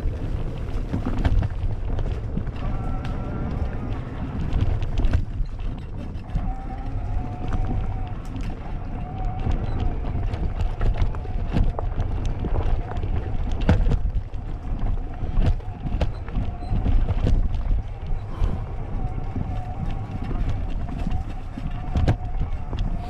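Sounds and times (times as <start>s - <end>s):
bike rattling over bumps: 0.0s - 23.0s
bike tyres rumbling on dirt: 0.0s - 23.0s
wind on microphone: 0.0s - 23.0s.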